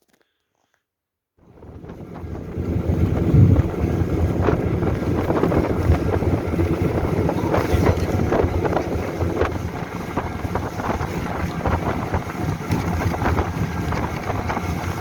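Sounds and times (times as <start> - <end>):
vehicle engine running: 1.4 - 15.0
wind buffeting microphone: 1.4 - 15.0.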